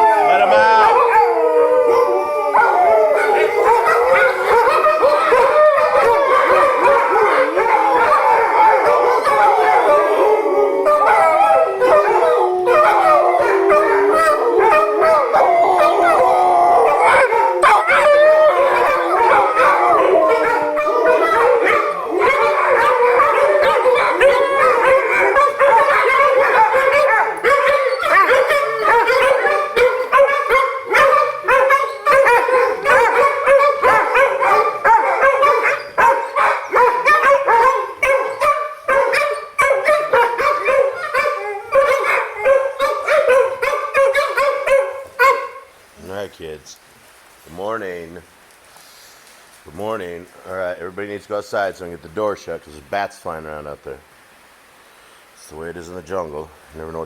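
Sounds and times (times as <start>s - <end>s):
dogs howling in chorus: 0.0s - 45.7s
dogs barking and yipping: 0.0s - 45.8s.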